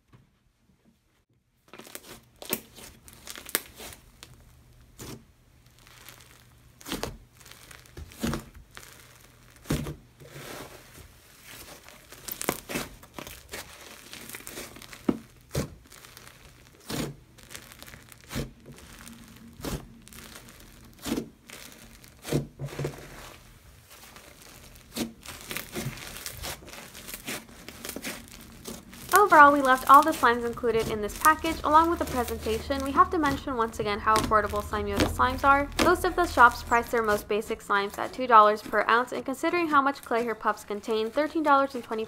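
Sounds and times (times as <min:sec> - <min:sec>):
air pockets popping in slime: 0:01.7 - 0:10.1, 0:11.5 - 0:37.2
slime crackling: 0:01.7 - 0:42.0.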